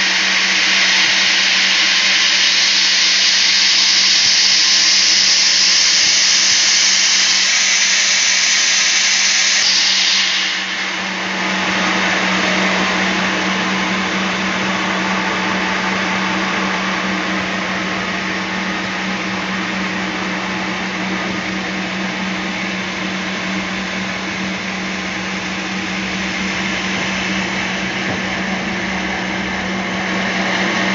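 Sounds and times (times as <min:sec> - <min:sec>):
band sawmill running: 0:00.0 - 0:30.9
loud high hiss: 0:00.0 - 0:30.9.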